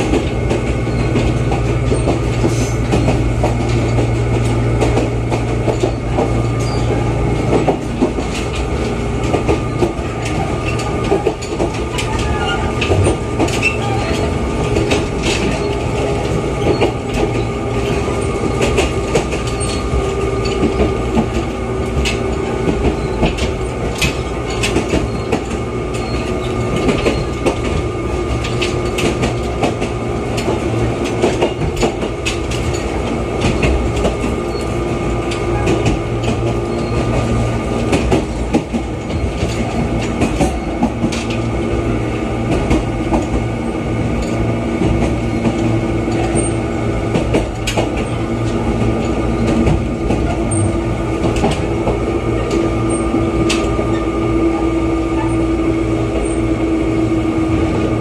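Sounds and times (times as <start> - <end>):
clicks and clacks from rails: 0.0 - 41.8, 42.4 - 43.5, 44.1 - 55.4
train wheels rumbling on track: 0.0 - 58.0.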